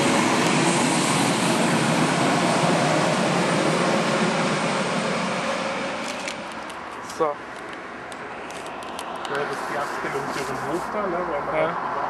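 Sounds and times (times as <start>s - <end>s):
train rushing and rumbling: 0.0s - 11.6s.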